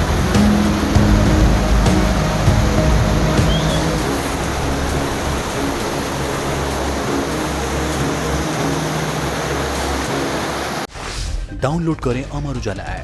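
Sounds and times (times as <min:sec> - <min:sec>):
river rushing: 0:00.0 - 0:10.9.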